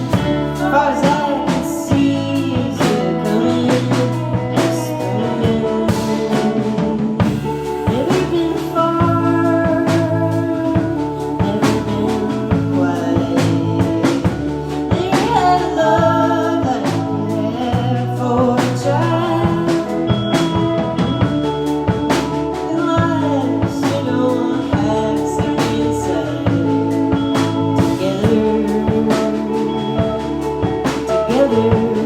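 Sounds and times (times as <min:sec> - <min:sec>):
bass guitar: 0:00.0 - 0:32.0
drum kit beat: 0:00.0 - 0:32.0
person singing: 0:00.0 - 0:32.0.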